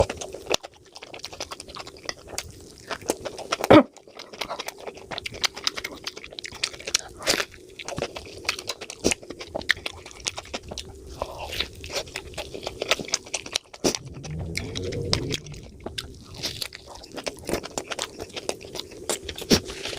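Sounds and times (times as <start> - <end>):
wet chewing and crunching: 0.0 - 19.9.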